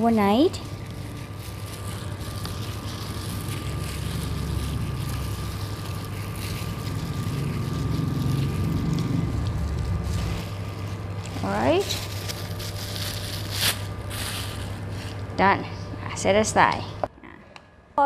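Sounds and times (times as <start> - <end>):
steady hum: 0.0 - 18.0
hand squishing meat in marinade: 0.6 - 15.2.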